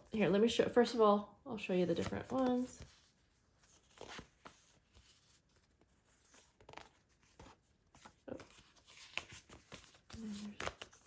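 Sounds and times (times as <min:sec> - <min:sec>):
paper sheets rustling: 0:01.8 - 0:11.0.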